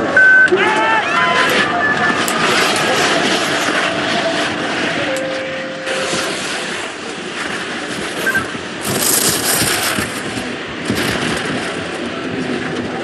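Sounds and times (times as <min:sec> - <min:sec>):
skis rushing on icy snow: 0:00.0 - 0:13.0.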